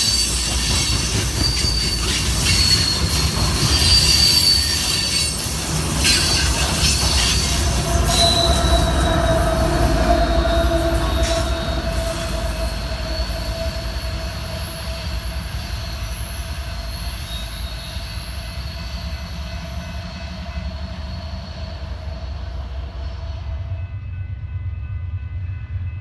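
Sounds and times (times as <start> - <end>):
high-pitched wheel squeal: 0.0 - 22.4
train cars rolling with low rumble: 0.0 - 26.0.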